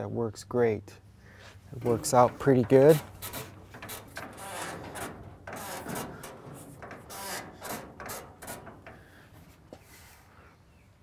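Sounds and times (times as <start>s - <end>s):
rustling: 1.3s - 11.0s.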